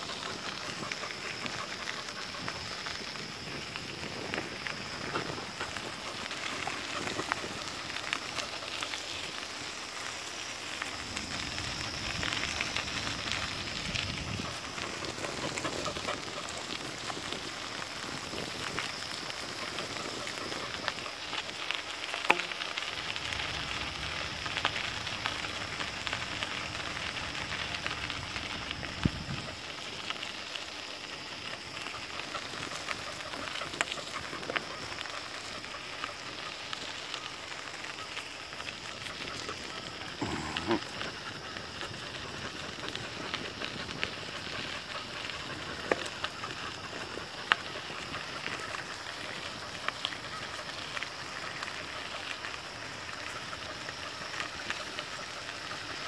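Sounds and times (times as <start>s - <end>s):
bicycle tyres on dirt path: 0.0s - 56.0s.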